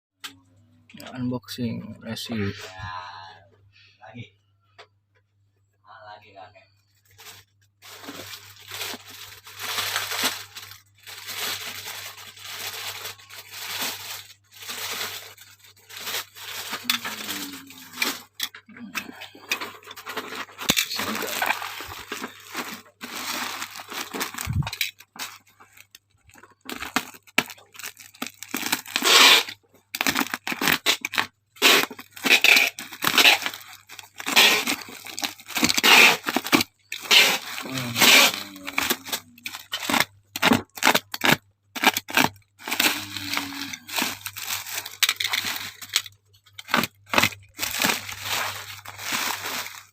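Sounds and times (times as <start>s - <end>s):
packaging tearing and rustling: 7.0s - 49.9s.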